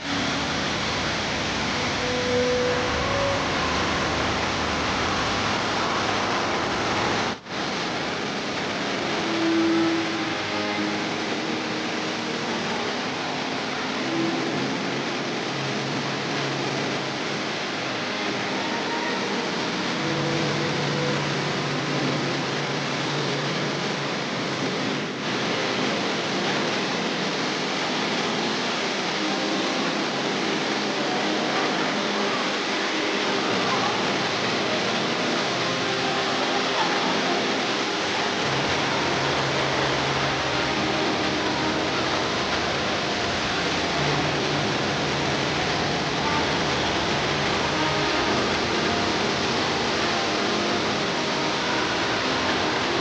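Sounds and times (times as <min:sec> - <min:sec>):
indoor waterfall rushing: 0:00.0 - 0:53.0.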